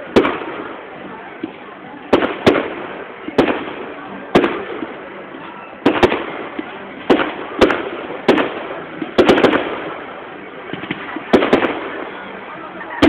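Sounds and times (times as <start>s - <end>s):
fireworks bangs with crackle: 0.0s - 13.0s.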